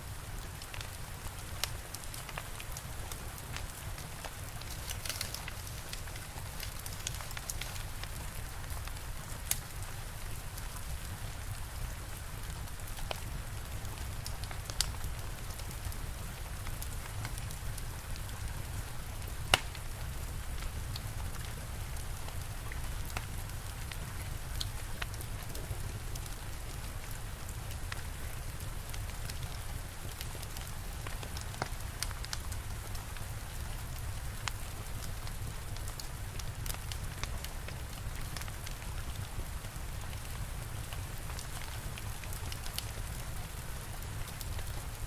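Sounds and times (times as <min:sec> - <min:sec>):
steady rain: 0:00.0 - 0:45.0
wood fire crackling and popping: 0:00.2 - 0:45.0.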